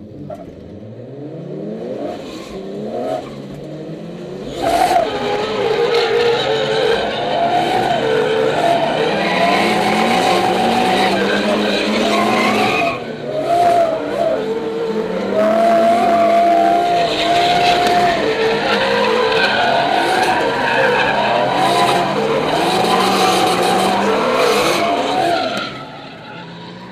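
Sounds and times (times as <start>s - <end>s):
car engine revving hard: 0.1s - 26.9s
tyres squealing and skidding: 4.3s - 26.9s.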